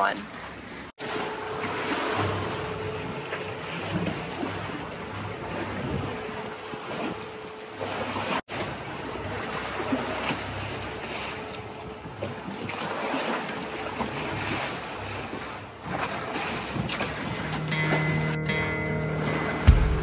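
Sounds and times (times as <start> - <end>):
waves washing against hulls: 0.0 - 20.0.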